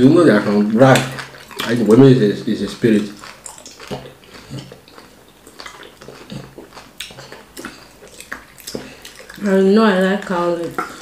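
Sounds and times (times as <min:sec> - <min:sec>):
wet chewing and mouth-smacking: 0:00.4 - 0:11.0.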